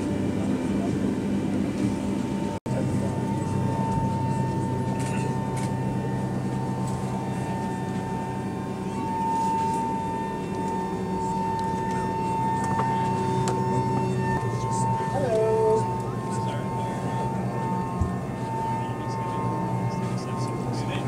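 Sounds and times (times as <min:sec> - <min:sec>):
machinery hum with high whine: 0:00.0 - 0:21.0.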